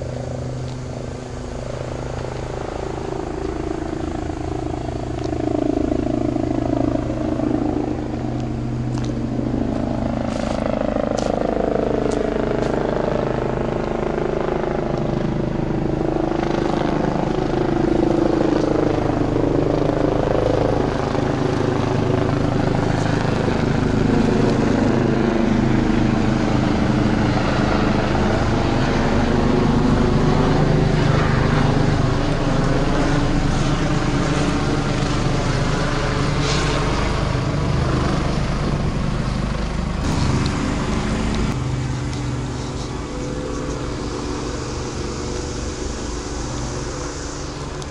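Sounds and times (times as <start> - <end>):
engine drone: 0.0 - 47.9.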